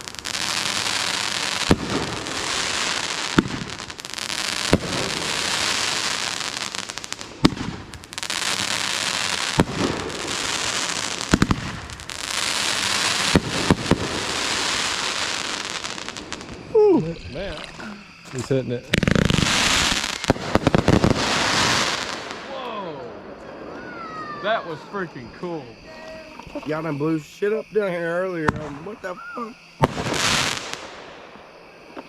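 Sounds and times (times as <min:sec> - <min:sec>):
firework bangs: 0:00.0 - 0:32.0
hissing crackle of fireworks: 0:00.0 - 0:32.0.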